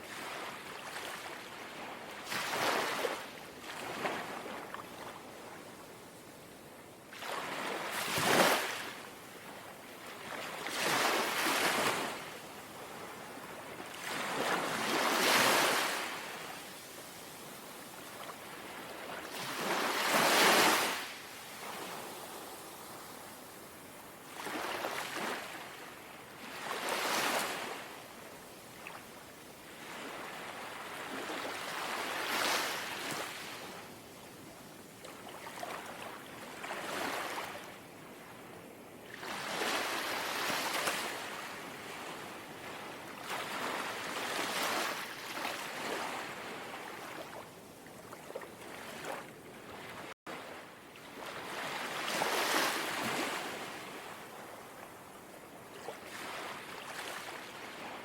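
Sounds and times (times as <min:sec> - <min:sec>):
gentle sea waves lapping: 0:00.0 - 0:05.6, 0:07.1 - 0:58.0.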